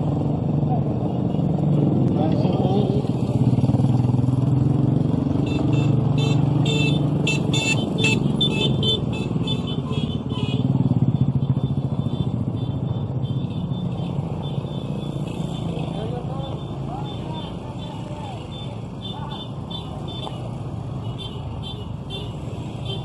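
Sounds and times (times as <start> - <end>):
motorcycle engines passing: 0.0 - 23.0.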